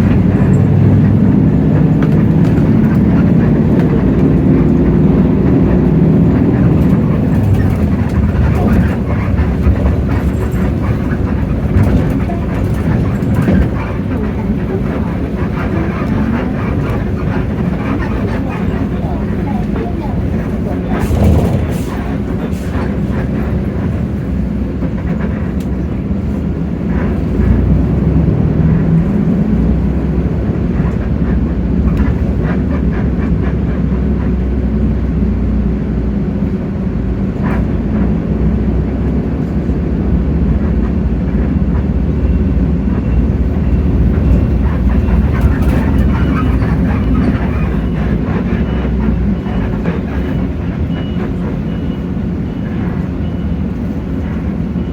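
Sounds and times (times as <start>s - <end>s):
bus diesel engine rumbling: 0.0s - 54.9s.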